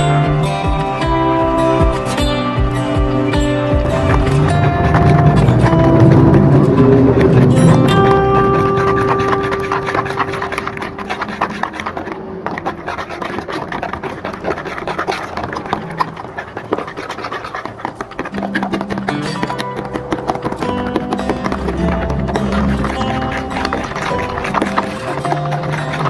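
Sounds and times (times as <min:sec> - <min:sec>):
background music: 0:00.0 - 0:14.0, 0:18.2 - 0:26.0
whisk beating eggs in bowl: 0:03.9 - 0:26.0.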